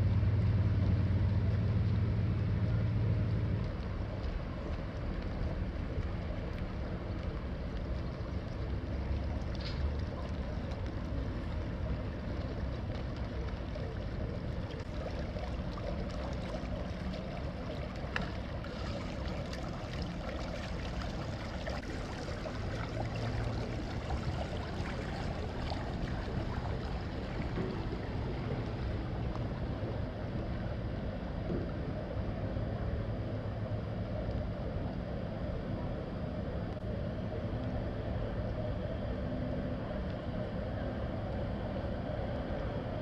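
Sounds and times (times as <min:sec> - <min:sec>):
water wash: 0:00.1 - 0:43.0.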